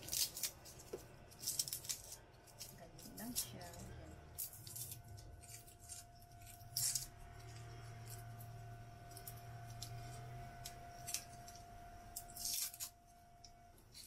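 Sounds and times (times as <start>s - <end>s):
faint steady hum: 0.0s - 14.0s
garlic skins crackling: 0.0s - 14.0s.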